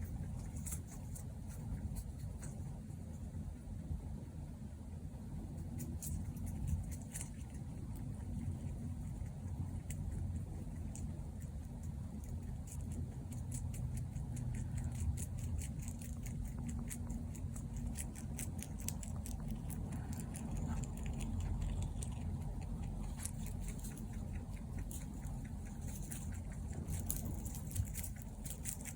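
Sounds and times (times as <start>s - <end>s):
rabbit chewing: 0.0s - 28.9s
steady low hum: 0.0s - 28.9s.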